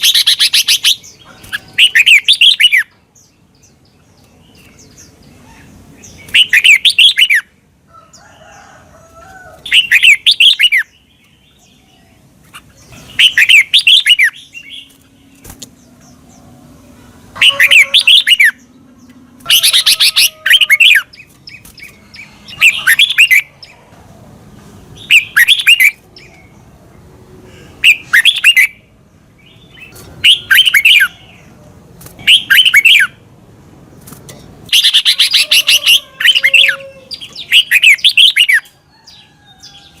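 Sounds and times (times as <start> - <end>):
bird singing warbled phrases: 0.0 - 8.3, 9.6 - 23.9, 24.6 - 40.0.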